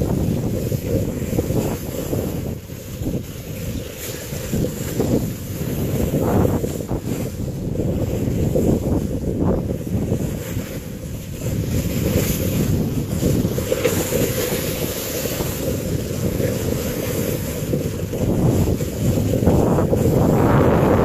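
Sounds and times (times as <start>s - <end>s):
board sliding over snow: 0.0s - 21.0s
wind buffeting microphone: 0.0s - 21.0s.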